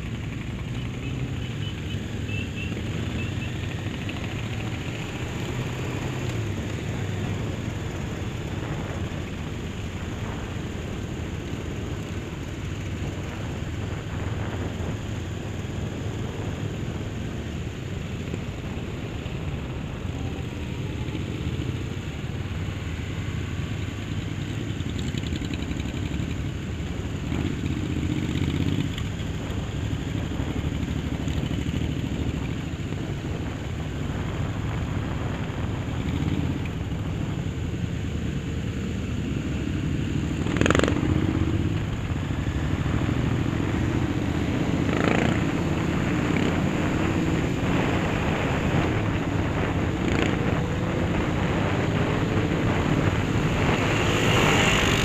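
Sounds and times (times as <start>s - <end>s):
motorcycle engine running: 0.0s - 55.0s
wind noise: 5.0s - 21.3s, 25.5s - 55.0s.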